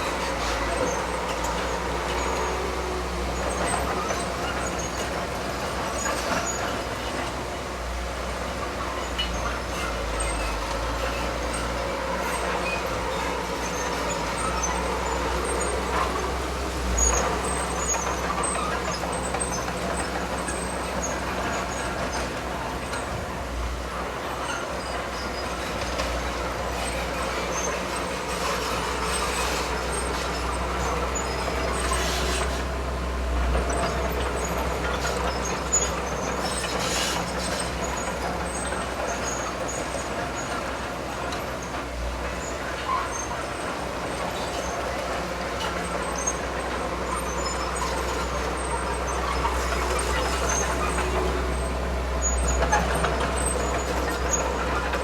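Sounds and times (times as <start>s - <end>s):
diesel engine rumbling under load: 0.0s - 55.0s.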